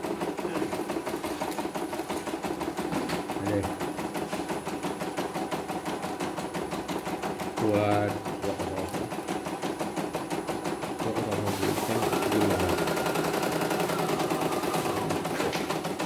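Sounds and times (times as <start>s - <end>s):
embroidery machine stitching: 0.0s - 16.0s.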